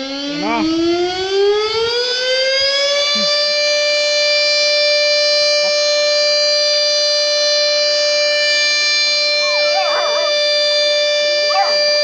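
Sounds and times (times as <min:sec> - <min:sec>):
air-raid siren wailing: 0:00.0 - 0:12.0.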